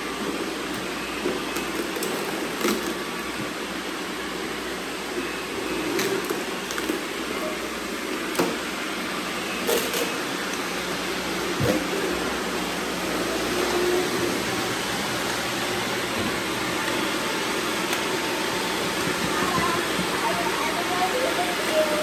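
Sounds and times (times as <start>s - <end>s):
robot vacuums whirring: 4.3s - 22.0s.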